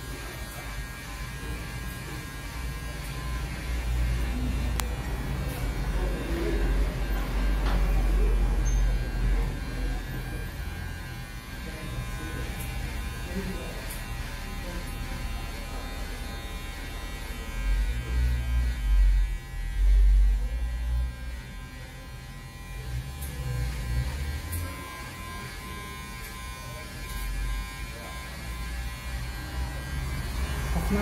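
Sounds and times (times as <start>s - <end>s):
hair clippers buzzing: 0.1s - 31.0s.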